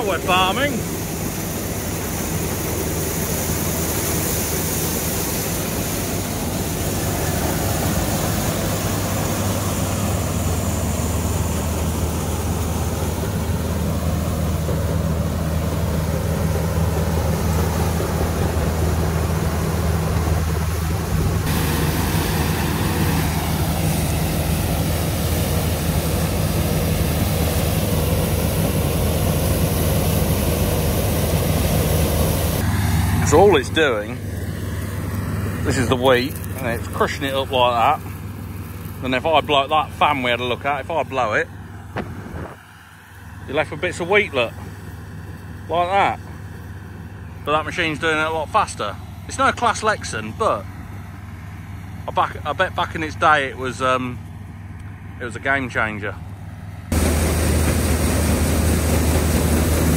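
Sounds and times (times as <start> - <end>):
diesel engine droning: 0.0 - 59.9
threshing machinery noise: 0.0 - 59.9.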